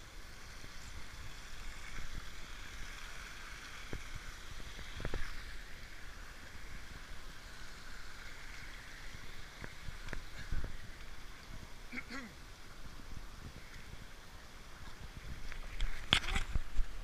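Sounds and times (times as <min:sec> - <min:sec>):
stream running over rocks: 0:00.0 - 0:17.0.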